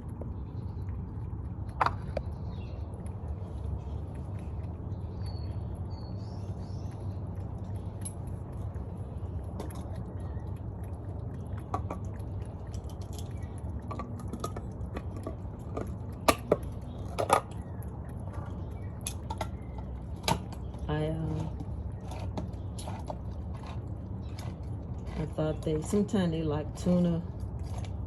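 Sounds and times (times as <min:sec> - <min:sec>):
cat chewing food: 0:00.0 - 0:25.9, 0:27.2 - 0:28.0
steady low rumble: 0:00.0 - 0:28.0.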